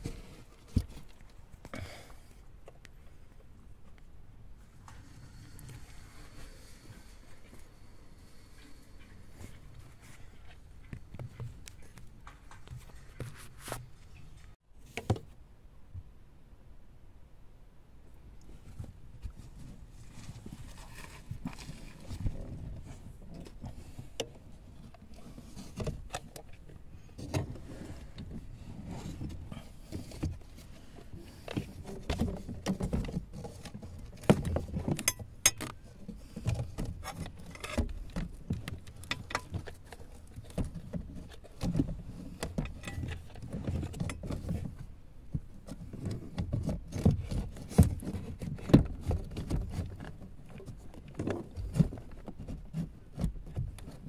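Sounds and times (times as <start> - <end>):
clicks knocks and scrapes of parts: 0.0 - 1.8, 8.5 - 15.3, 18.7 - 54.0.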